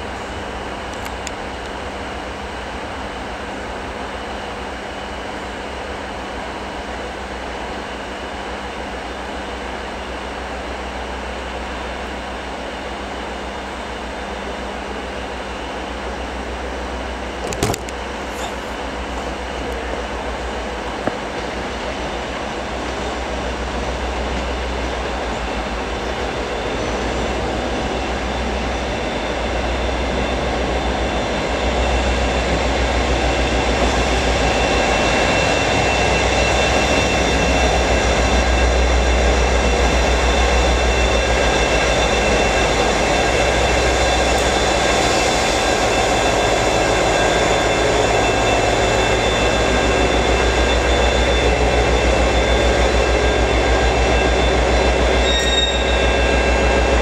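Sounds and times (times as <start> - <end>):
locomotive engine humming: 6.0 - 57.0.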